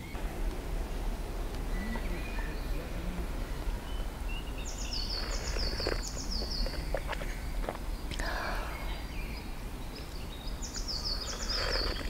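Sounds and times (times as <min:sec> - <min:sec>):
songbird singing: 0:00.0 - 0:12.0
wind on microphone: 0:00.0 - 0:12.0.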